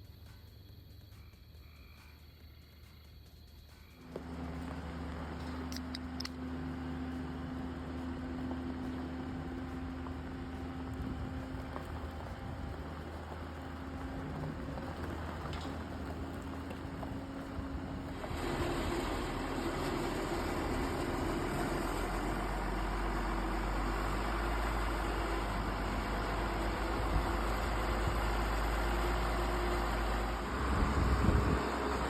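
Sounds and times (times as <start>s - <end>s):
boat engine running: 4.1s - 32.0s.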